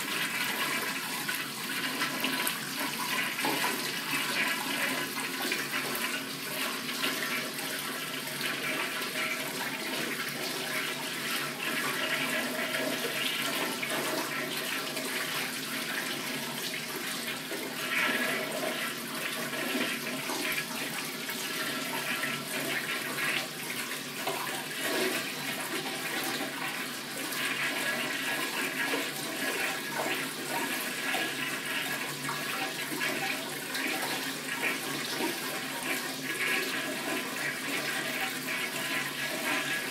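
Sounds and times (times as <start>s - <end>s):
toilet flushing: 0.0s - 39.9s.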